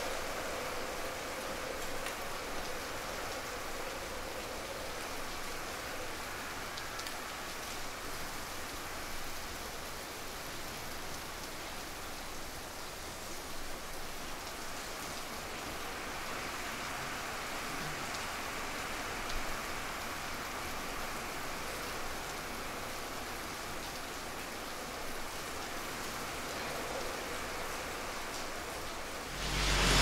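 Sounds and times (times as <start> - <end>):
faint ticks of raindrops: 0.0 - 29.3
steady rain falling: 0.0 - 30.0.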